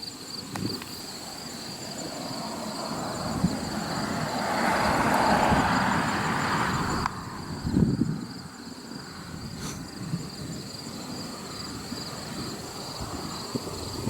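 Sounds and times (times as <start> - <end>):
insects trilling: 0.0 - 14.0
vehicle passing on road: 0.4 - 14.0.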